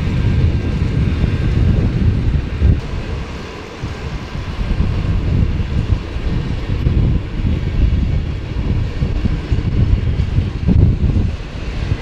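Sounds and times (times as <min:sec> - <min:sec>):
diesel locomotive rumble: 0:00.0 - 0:12.0.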